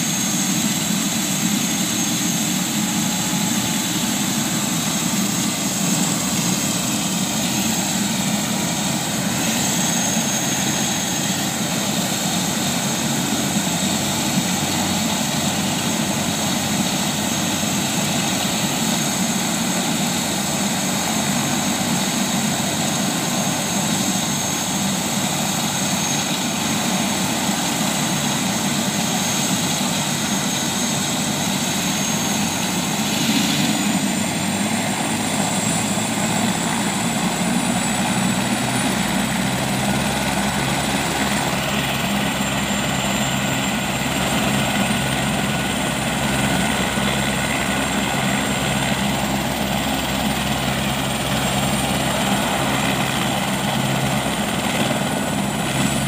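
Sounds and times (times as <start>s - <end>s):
helicopter rotor noise: 0.0s - 56.0s
helicopter turbine whine: 0.0s - 56.0s.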